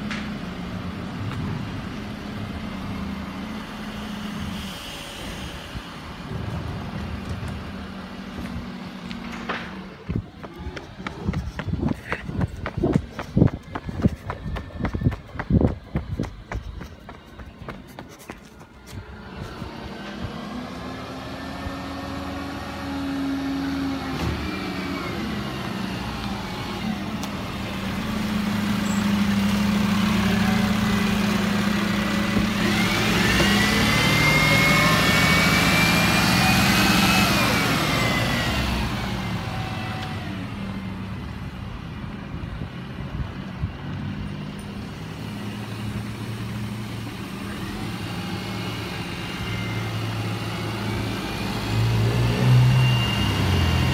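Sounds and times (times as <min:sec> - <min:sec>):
truck diesel engine running: 0:00.0 - 0:53.9.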